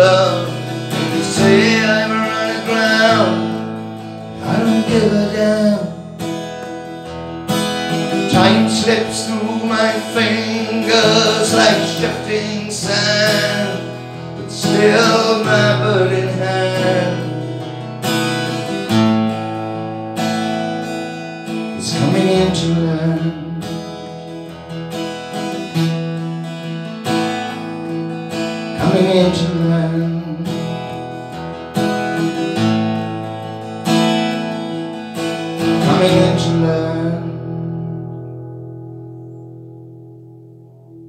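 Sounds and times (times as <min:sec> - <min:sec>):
acoustic guitar strumming chords: 0:00.0 - 0:41.0.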